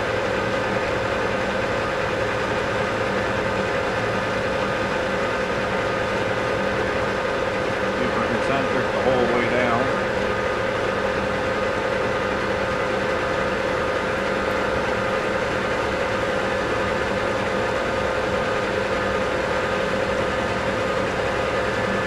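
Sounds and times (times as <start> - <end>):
lathe running with hum: 0.0 - 22.0.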